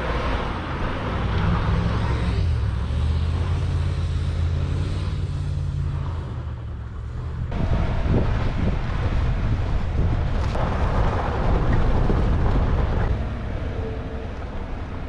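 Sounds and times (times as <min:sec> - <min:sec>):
rough rumble: 0:00.0 - 0:15.0
suv engine climbing a hill: 0:00.0 - 0:15.0.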